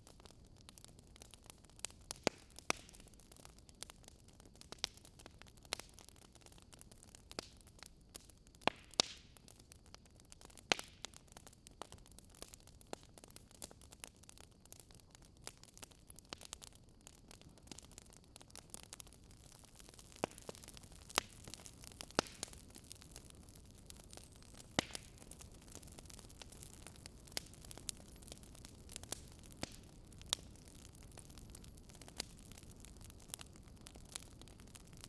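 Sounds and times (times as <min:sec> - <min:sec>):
faint steady hiss: 0:00.0 - 0:35.0
wood fire crackling and popping: 0:00.0 - 0:35.0.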